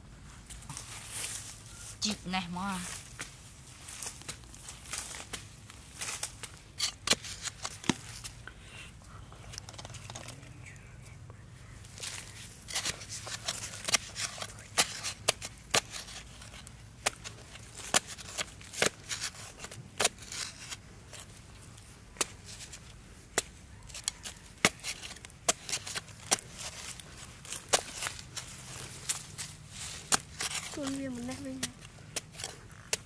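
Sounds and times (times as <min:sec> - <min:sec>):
digging tool scraping dry soil: 0:00.6 - 0:08.4, 0:11.9 - 0:33.0.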